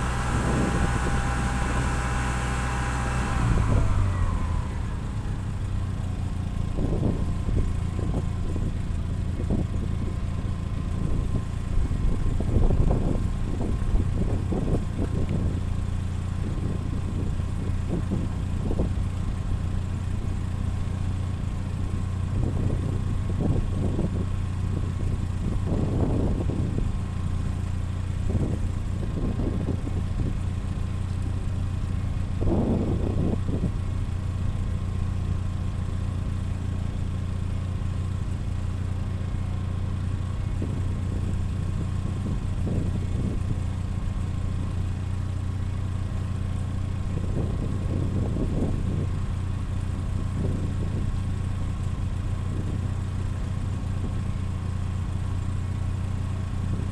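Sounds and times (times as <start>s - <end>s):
engine idling with surges: 0.0s - 56.9s.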